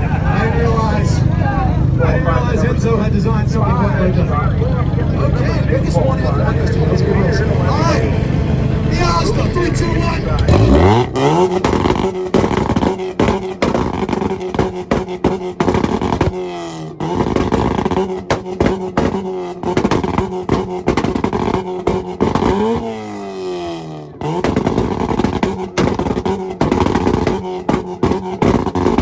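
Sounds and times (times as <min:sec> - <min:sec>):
engine revving on rev limiter: 0:00.0 - 0:29.0
exhaust popping and crackling: 0:00.0 - 0:29.0.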